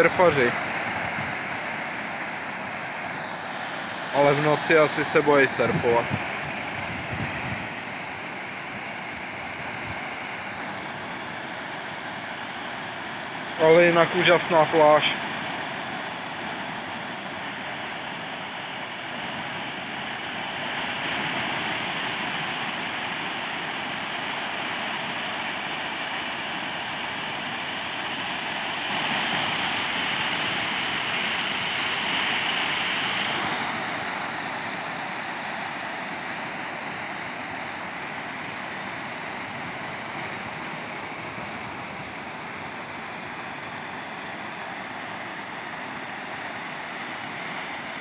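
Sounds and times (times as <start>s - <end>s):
sea surf breaking on rocky shore: 0.0s - 48.0s.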